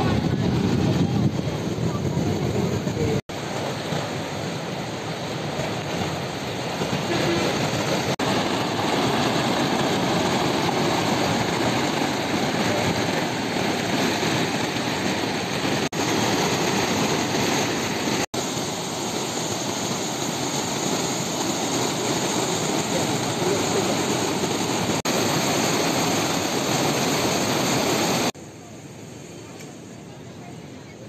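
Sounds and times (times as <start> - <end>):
flood river water rushing: 0.0 - 28.4.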